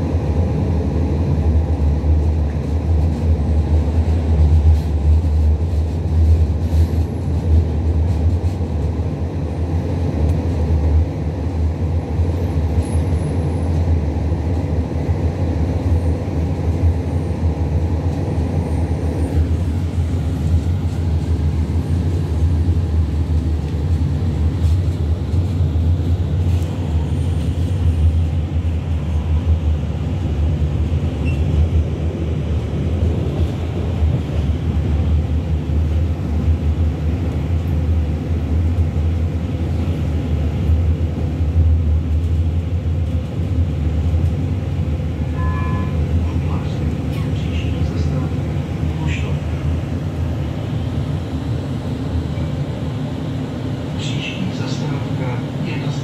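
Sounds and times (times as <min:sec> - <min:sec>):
tram wheels rumbling on rails: 0:00.0 - 0:56.0.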